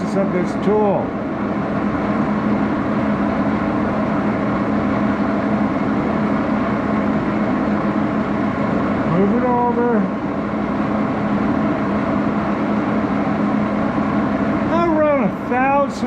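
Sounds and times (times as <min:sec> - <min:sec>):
lathe running: 0:00.0 - 0:16.0.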